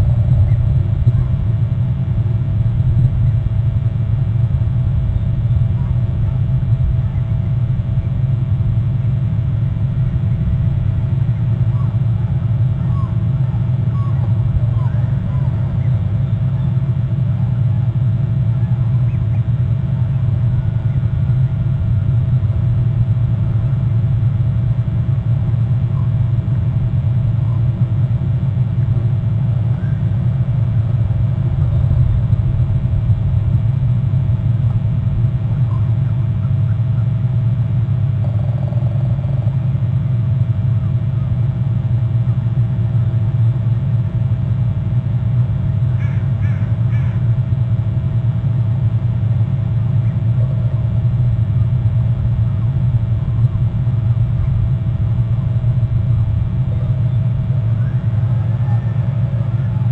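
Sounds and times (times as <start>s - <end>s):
faint steady hum: 0.0s - 59.9s
steady low rumble: 0.0s - 59.9s.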